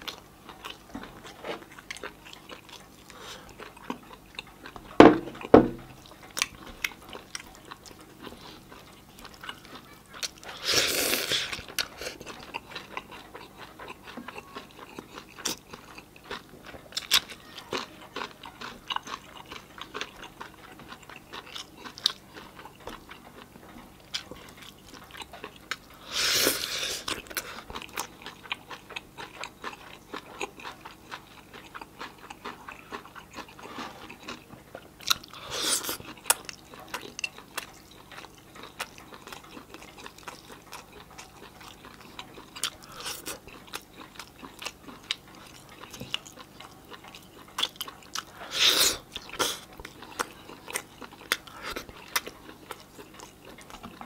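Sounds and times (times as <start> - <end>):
man chewing and lip smacking: 0.0 - 54.0.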